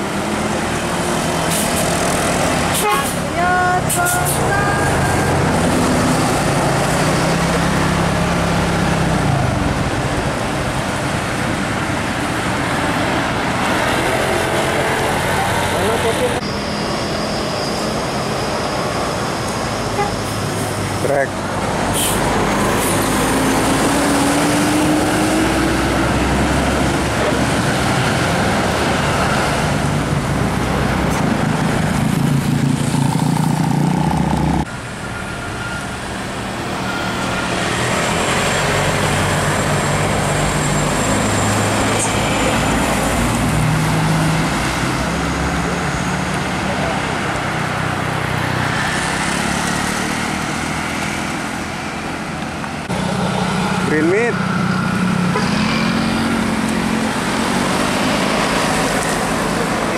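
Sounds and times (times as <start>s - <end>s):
bus diesel engines passing: 0.0s - 59.9s
road noise: 0.0s - 59.9s
vehicle engine: 0.0s - 59.9s.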